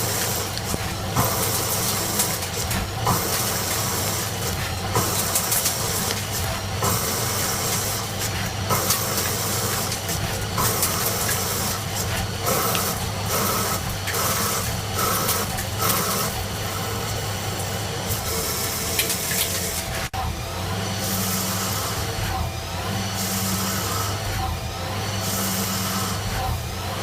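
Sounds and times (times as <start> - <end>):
machine low hum: 0.0 - 27.0.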